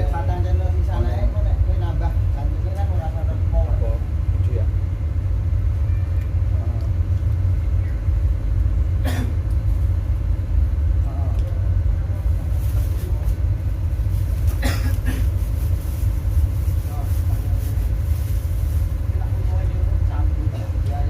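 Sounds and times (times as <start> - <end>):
loud deep rumble: 0.0 - 21.0.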